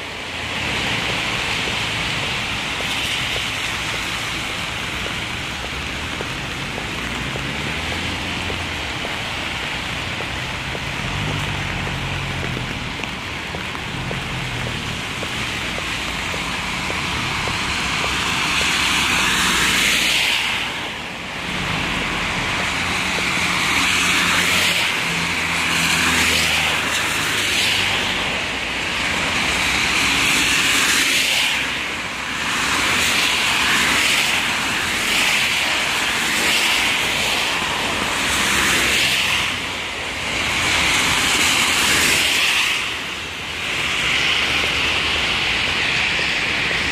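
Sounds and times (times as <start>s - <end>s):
tyres hissing on wet road: 0.0s - 46.9s.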